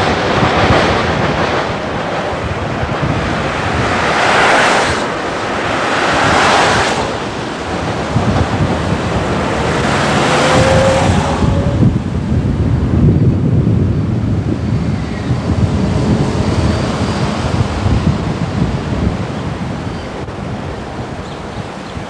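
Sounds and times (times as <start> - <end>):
cars passing: 0.0 - 22.0
wind buffeting microphone: 0.0 - 22.0.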